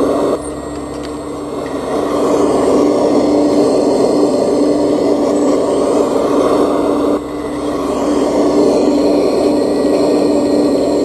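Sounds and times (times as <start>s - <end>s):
hydraulic pump humming: 0.0s - 11.0s.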